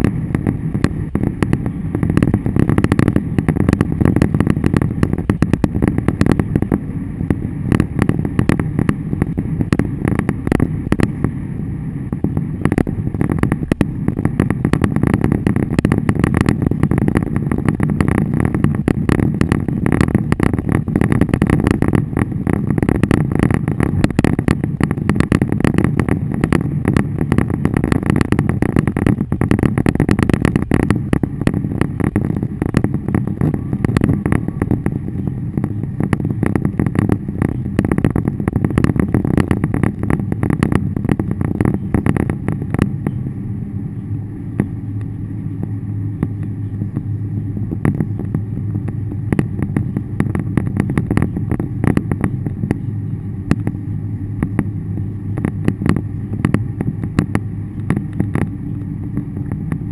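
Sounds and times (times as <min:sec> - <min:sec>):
small crackling hits: 0:00.0 - 0:11.4, 0:12.0 - 0:59.9
car engine and road rumble: 0:00.0 - 0:59.9.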